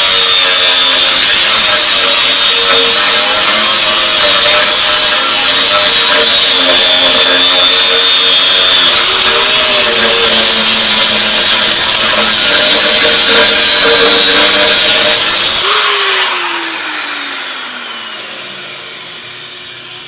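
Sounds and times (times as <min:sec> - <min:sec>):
angle grinder grinding metal: 0:00.0 - 0:20.0.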